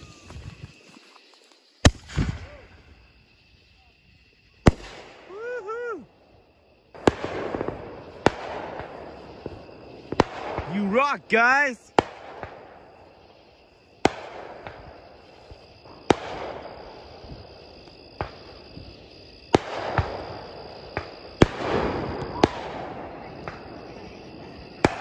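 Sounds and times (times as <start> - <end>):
distant fireworks bangs: 1.8 - 25.0.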